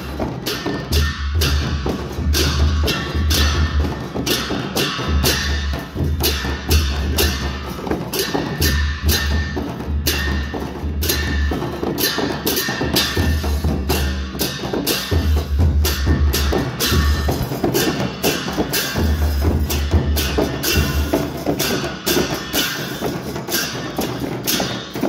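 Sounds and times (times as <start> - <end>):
drums booming: 0.0 - 25.0
hand cymbals clashing: 0.0 - 25.0.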